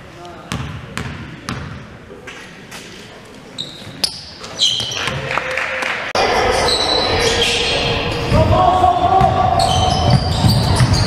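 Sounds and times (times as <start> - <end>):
gym noise with voices: 0.0 - 11.0.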